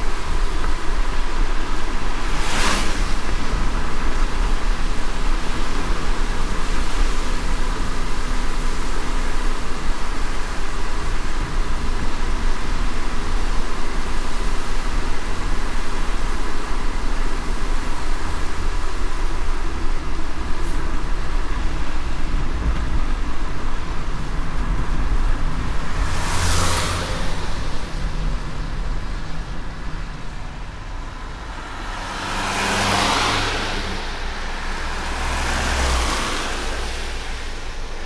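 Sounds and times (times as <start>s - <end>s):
rain hiss: 0.0s - 38.0s
tyre and road rumble: 0.0s - 38.0s
vehicle whooshes: 0.0s - 38.0s.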